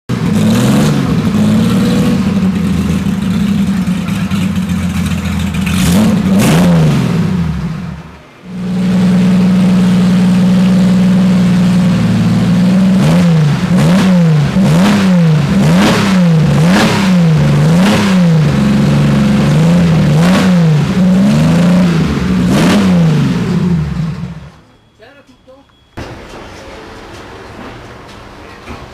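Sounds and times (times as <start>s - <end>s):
race car engine idling and revving: 0.1s - 24.6s.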